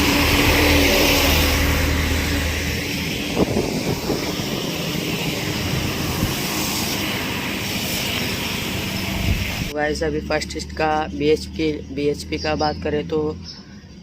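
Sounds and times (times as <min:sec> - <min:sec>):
low engine hum: 0:00.0 - 0:14.0
vehicle traffic: 0:00.0 - 0:14.0.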